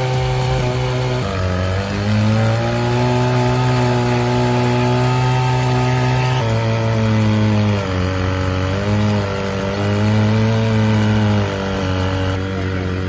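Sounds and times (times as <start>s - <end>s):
engine running under load: 0.0s - 13.0s.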